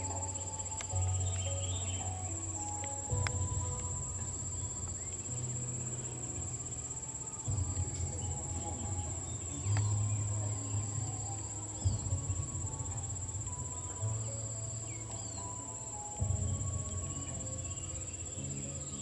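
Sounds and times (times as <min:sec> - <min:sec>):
high-pitched insect drone: 0:00.0 - 0:19.0
low rumble: 0:00.0 - 0:19.0.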